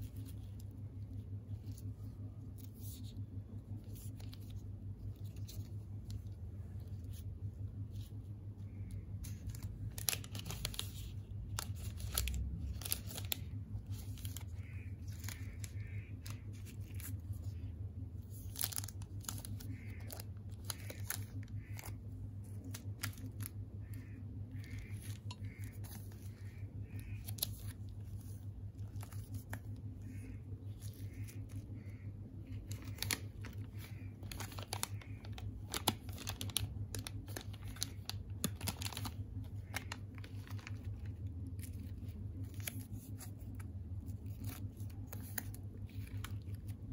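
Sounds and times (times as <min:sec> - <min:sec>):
plastic wrappers crinkling: 0:00.0 - 0:46.9
steady low hum: 0:00.0 - 0:46.9.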